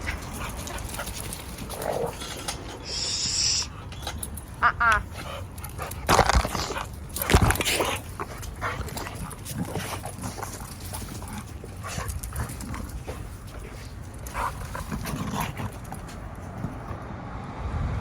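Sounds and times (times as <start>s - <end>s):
dog whining: 0.0s - 16.4s
dogs scuffling: 0.0s - 17.0s.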